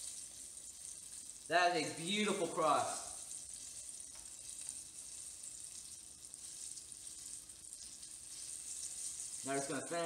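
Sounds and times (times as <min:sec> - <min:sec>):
fish deep-frying in oil: 0:00.0 - 0:10.0.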